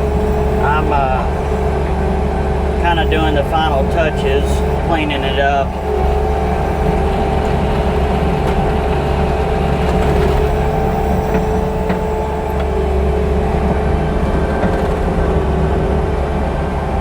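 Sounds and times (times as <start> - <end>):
high whine: 0.0 - 17.0
loader diesel engine running: 0.0 - 17.0.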